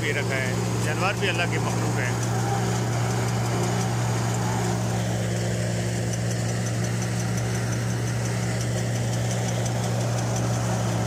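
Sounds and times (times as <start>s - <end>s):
thresher machine humming: 0.0s - 11.0s.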